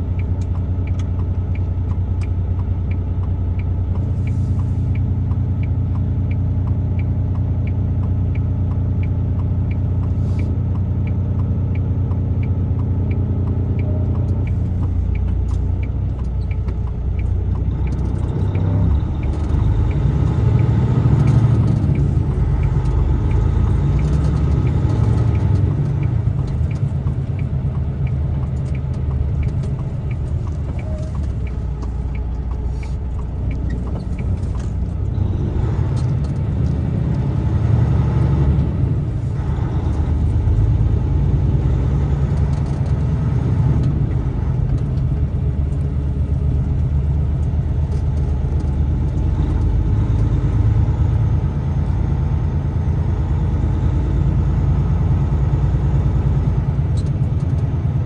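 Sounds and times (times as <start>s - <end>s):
light regular ticking: 0.0s - 58.0s
truck engine and road rumble: 0.0s - 58.0s.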